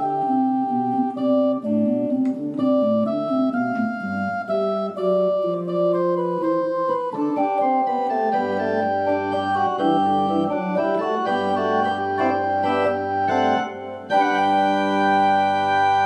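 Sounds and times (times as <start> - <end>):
organ chords: 0.0 - 16.0.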